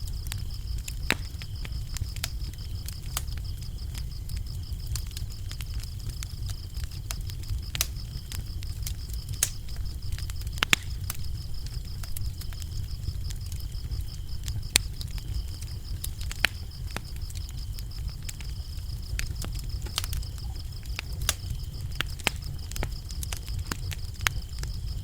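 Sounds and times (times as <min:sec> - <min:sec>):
crickets chirping: 0:00.0 - 0:25.0
wood fire crackling: 0:00.0 - 0:25.0.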